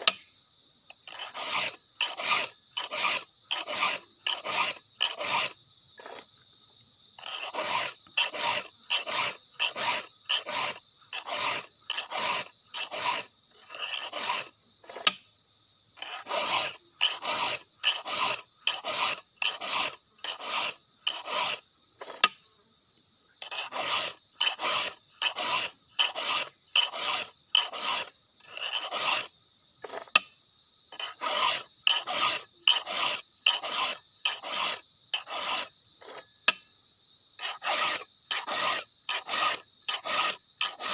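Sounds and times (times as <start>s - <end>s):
insects humming: 0.0s - 40.9s
file rasping on chainsaw chain: 0.9s - 6.2s, 7.2s - 15.2s, 16.0s - 22.4s, 23.4s - 30.3s, 30.9s - 36.6s, 37.4s - 40.9s.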